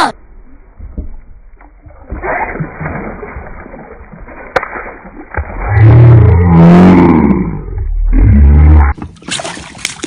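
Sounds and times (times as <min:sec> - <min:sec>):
water splashing and sloshing: 0:00.0 - 0:08.1, 0:08.8 - 0:10.0.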